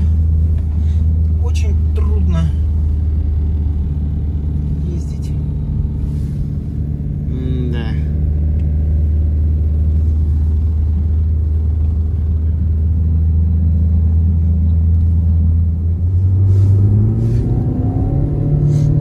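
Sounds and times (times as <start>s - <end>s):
car engine labouring and revving: 0.0s - 19.0s.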